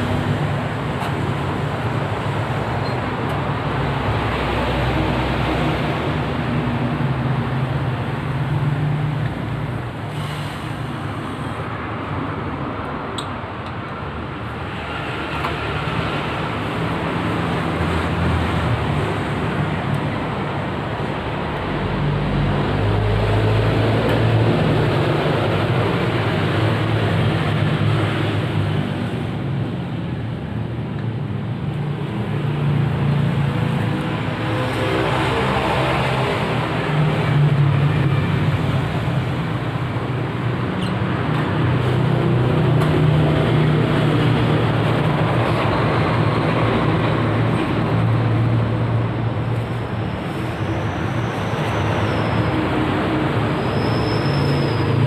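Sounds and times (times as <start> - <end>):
motor traffic rumble: 0.0 - 55.0.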